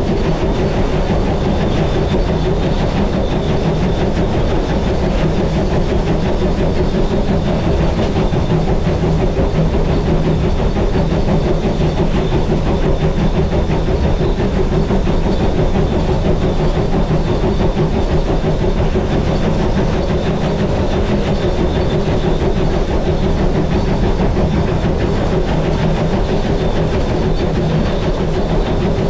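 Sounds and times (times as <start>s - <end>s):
steam locomotive rumble and clatter: 0.0s - 29.0s.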